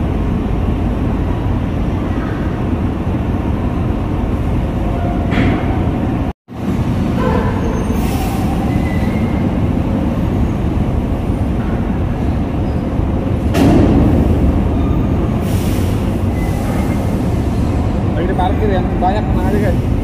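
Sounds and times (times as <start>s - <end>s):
diesel truck engines rumbling: 0.0s - 20.0s.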